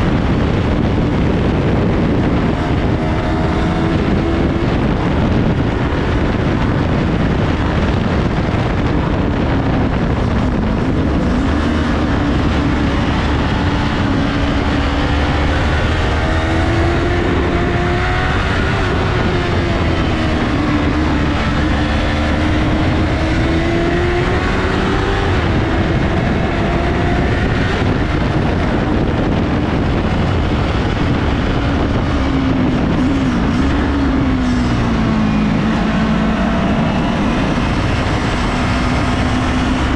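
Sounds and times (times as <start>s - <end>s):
motorcycle engine revving: 0.0s - 39.9s
wind rush on microphone: 0.0s - 39.9s.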